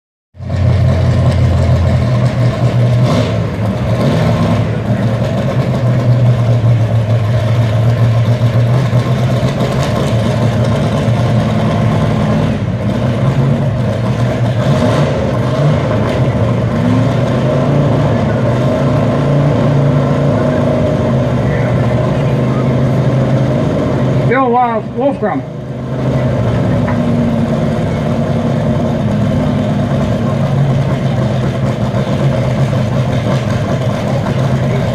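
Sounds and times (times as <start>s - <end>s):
truck engine at high revs: 0.4s - 34.9s.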